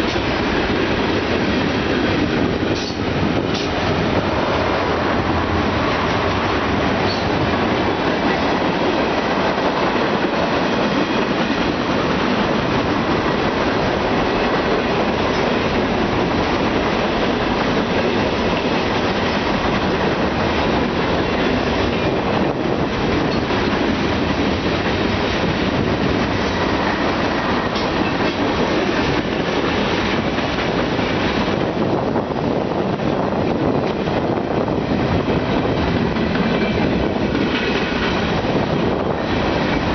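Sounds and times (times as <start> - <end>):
rail joint clicks: 0.0 - 39.9
train wheels rumbling on rail: 0.0 - 39.9.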